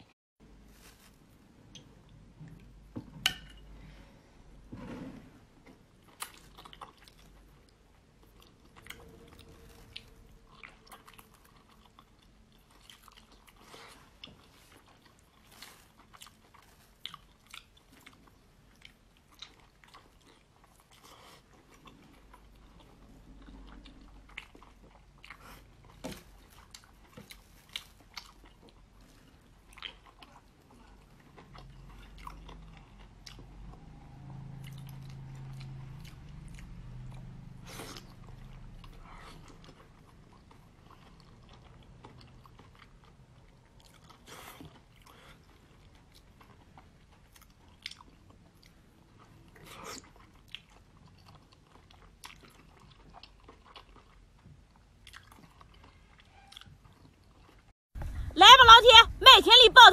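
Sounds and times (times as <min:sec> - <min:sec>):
person chewing food: 0:05.5 - 0:58.3.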